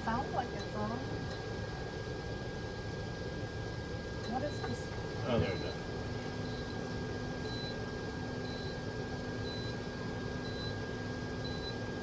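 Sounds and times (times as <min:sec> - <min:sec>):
stovetop low hum: 0:00.0 - 0:12.0.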